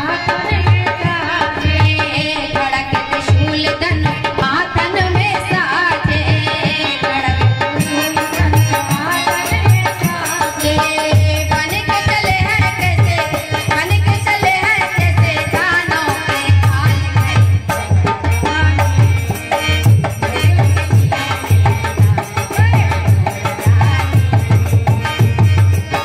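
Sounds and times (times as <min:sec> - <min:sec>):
rhythmic drum beat: 0:00.0 - 0:26.0
woman singing into a microphone: 0:00.0 - 0:26.0.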